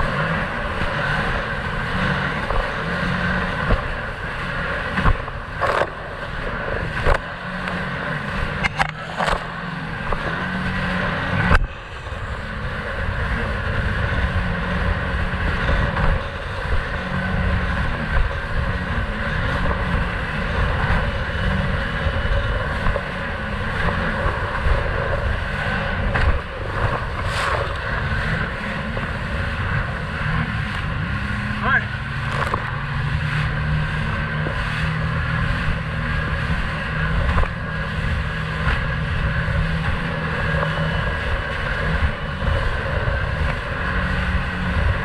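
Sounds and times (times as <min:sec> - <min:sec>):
watercraft engine running: 0:00.0 - 0:45.0.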